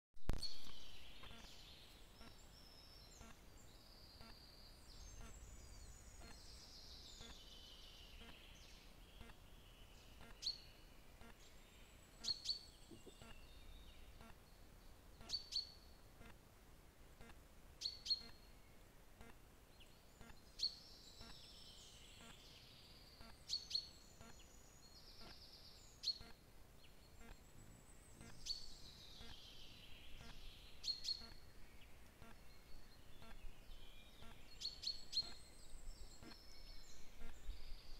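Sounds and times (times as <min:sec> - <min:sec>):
birds chirping: 0:00.3 - 0:16.4, 0:17.2 - 0:37.9.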